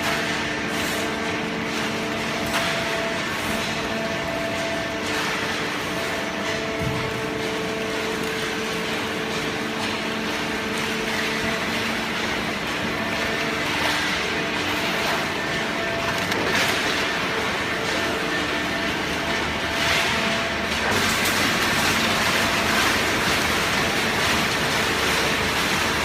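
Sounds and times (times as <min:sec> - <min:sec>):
baler machine hum: 0:00.0 - 0:26.0.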